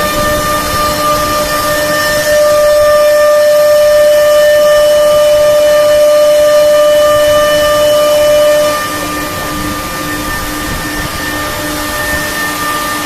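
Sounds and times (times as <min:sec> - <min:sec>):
router high whine: 0:00.0 - 0:13.0.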